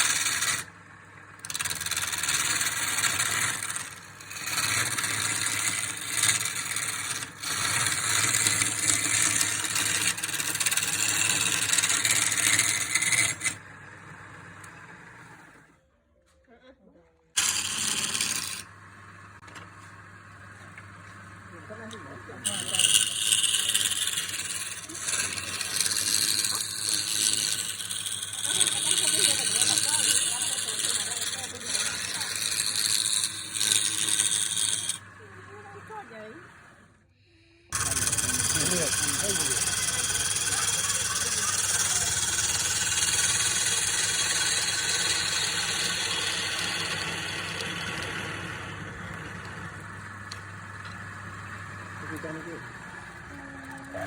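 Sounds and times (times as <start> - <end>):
tool cutting spinning wood: 0.0 - 15.8, 17.4 - 37.0, 37.7 - 54.0
wood scraping on a lathe: 0.0 - 15.8, 17.4 - 37.0, 37.7 - 54.0.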